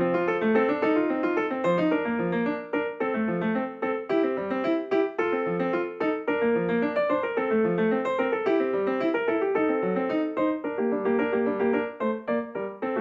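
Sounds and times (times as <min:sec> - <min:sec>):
piano music with quick notes: 0:00.0 - 0:13.0.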